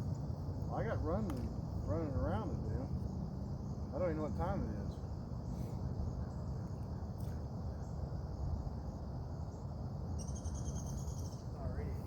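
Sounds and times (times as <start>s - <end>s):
insects trilling: 0.0s - 12.0s
loud pulsing insect trill: 0.0s - 12.0s.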